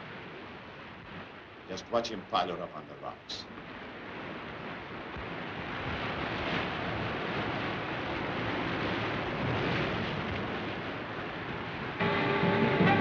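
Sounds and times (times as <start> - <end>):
rough sea surf: 0.0 - 13.0
wind: 0.0 - 13.0.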